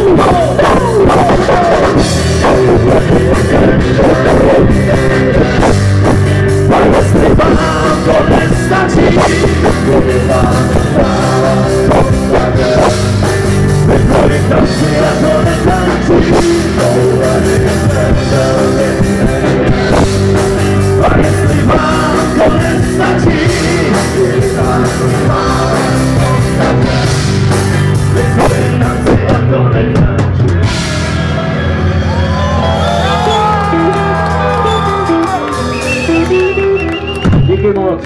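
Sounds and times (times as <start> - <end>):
drum kit: 0.0 - 37.9
electric guitars: 0.0 - 38.0.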